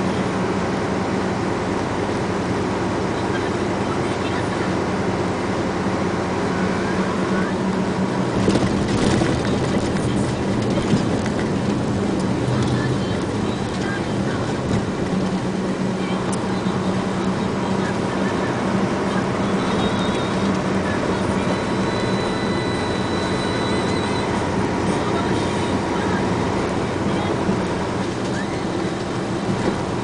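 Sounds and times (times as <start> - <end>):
road and wind noise: 0.0 - 30.0
vehicle engine hum: 0.0 - 30.0.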